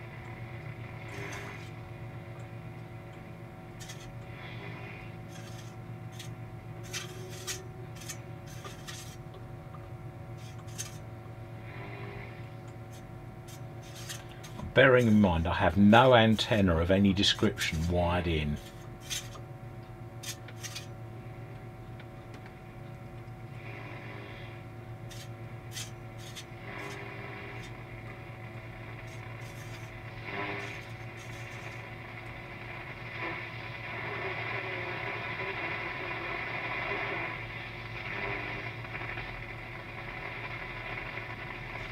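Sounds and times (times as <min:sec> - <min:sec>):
scratchy static bursts: 0:00.0 - 0:02.1, 0:03.7 - 0:09.2, 0:11.6 - 0:19.4, 0:23.5 - 0:41.9
radio speaker hum: 0:00.0 - 0:41.9.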